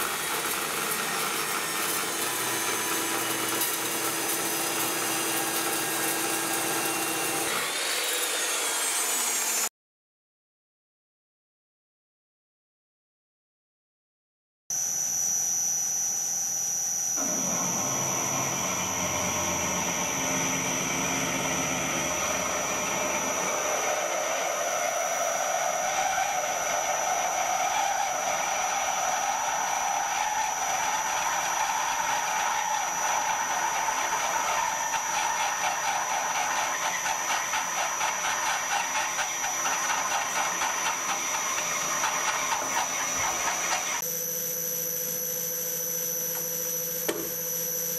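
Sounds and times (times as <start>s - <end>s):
drill cutting metal: 0.0s - 9.7s, 15.0s - 47.9s
lathe spindle whine: 0.0s - 9.7s, 14.8s - 47.9s.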